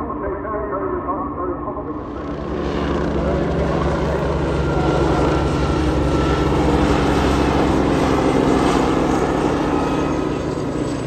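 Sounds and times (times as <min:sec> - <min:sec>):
helicopters flying past: 0:00.0 - 0:11.0.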